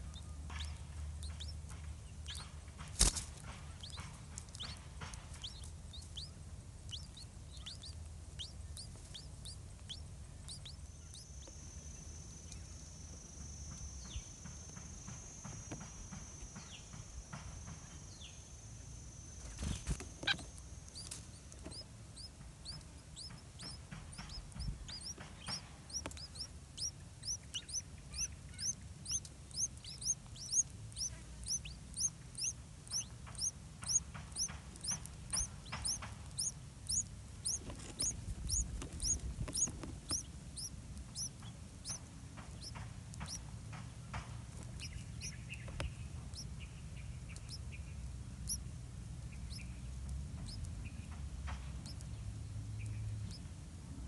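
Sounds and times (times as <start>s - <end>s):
nestlings chirping: 0.0s - 53.5s.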